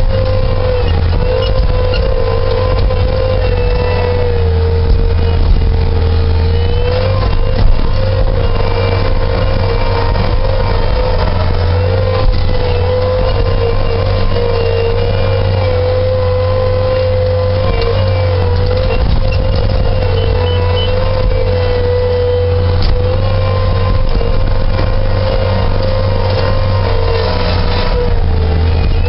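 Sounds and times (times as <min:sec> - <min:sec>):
skid-steer loader engine humming: 0:00.0 - 0:29.0.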